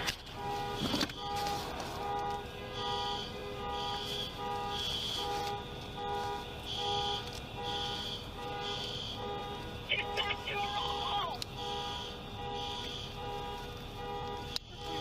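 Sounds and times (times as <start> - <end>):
car alarm horns honking: 0.0 - 15.0.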